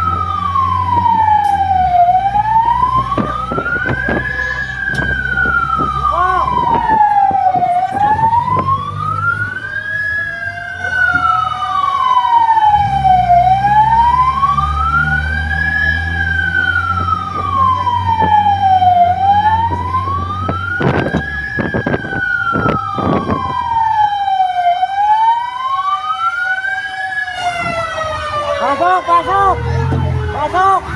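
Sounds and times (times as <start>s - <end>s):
siren wailing: 0.0s - 30.9s
vehicle engine rumble: 0.0s - 30.9s.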